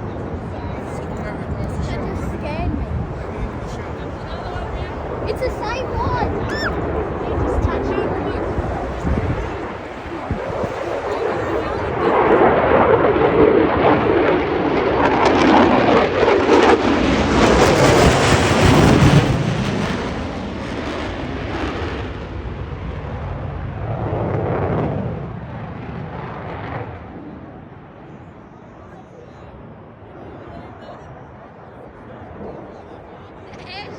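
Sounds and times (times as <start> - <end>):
fighter jet passing by: 0.0 - 28.5.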